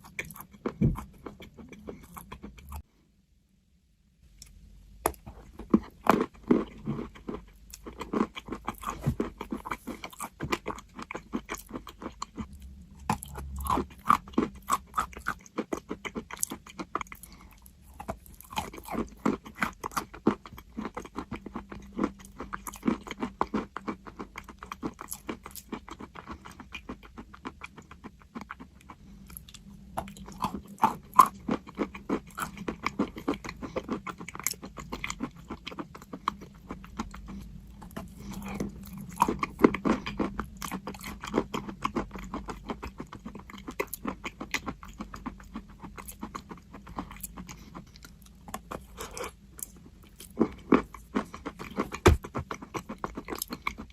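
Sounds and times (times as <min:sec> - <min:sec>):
person chewing crunchy chalk: 0:00.0 - 0:02.9, 0:05.1 - 0:53.9.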